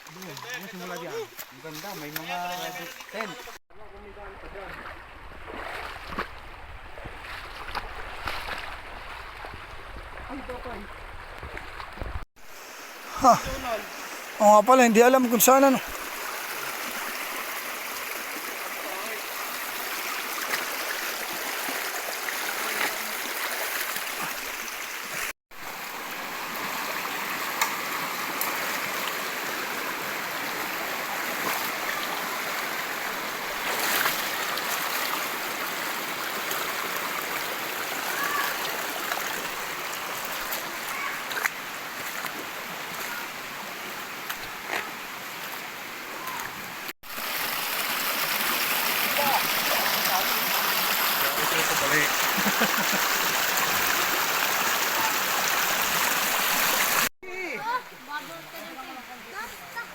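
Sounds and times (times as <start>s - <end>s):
small water splashes: 0.0s - 3.6s, 4.4s - 57.1s
stream water flowing: 0.0s - 3.6s, 4.2s - 59.9s.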